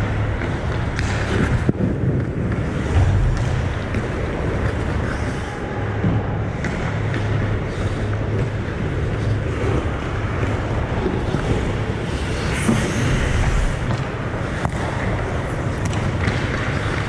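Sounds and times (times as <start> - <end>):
low hum and rushing noise: 0.0 - 17.0.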